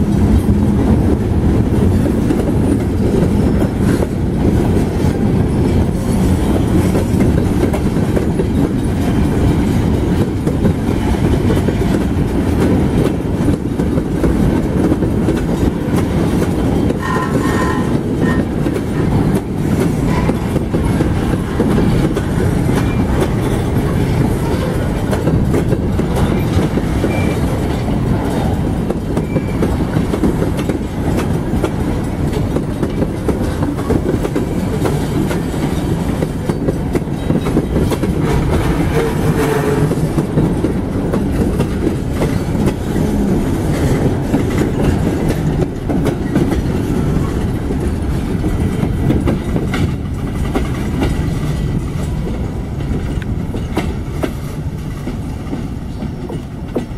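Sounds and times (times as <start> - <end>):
freight train wheels rumbling on rails: 0.0 - 56.9.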